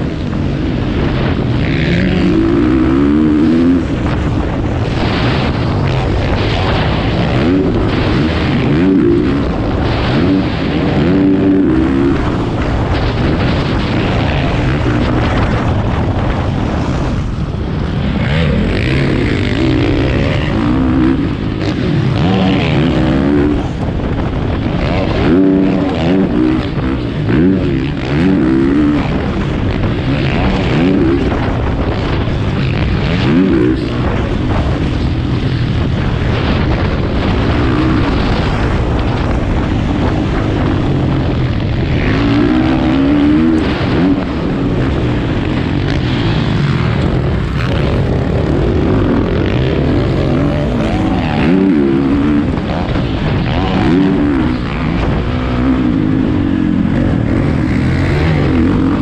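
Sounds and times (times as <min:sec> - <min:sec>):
dirt bike engine revving: 0:00.0 - 0:59.0
steady rush of noise: 0:00.0 - 0:59.0.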